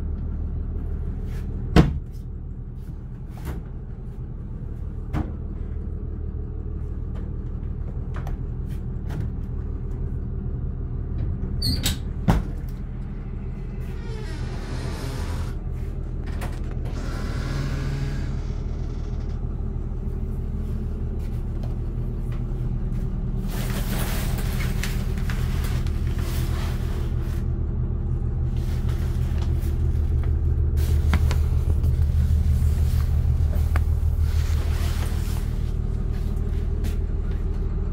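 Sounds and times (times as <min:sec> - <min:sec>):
bus diesel engine idling: 0:00.0 - 0:37.9.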